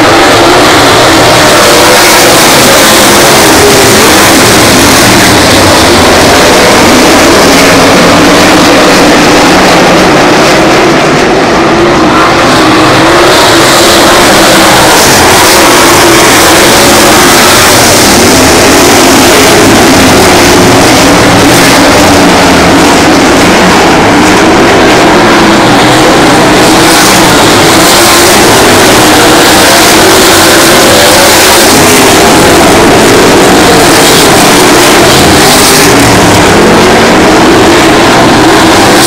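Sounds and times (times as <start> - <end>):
race car engines: 0.0 - 39.0.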